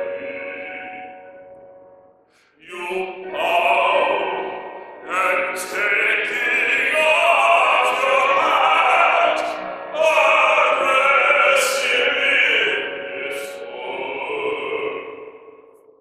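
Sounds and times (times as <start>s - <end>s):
musical theatre singing: 0.0s - 1.4s, 2.6s - 15.3s
musical accompaniment: 0.0s - 15.9s.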